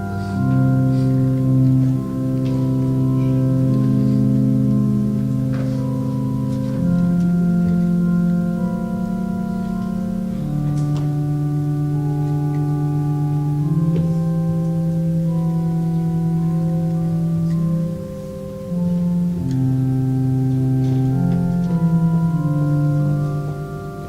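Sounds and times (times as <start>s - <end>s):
church organ chords: 0.0s - 24.0s.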